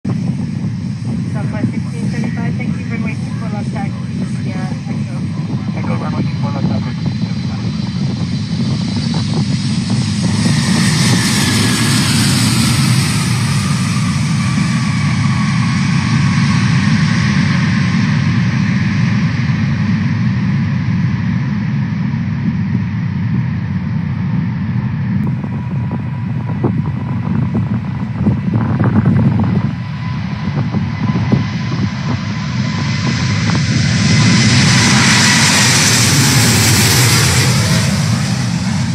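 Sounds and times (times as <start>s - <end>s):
jet airliner engines roaring: 0.0s - 38.9s.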